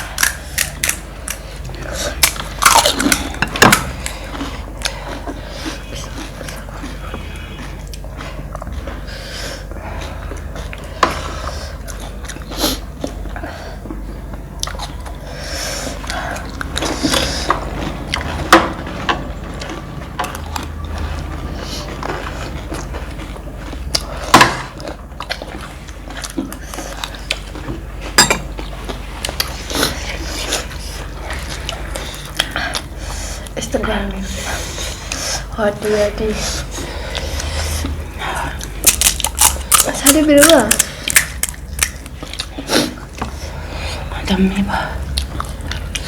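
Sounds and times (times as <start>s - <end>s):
crunching and chewing snacks: 0.0s - 33.8s, 36.7s - 44.2s, 45.0s - 46.0s
steady low hum: 0.0s - 46.0s.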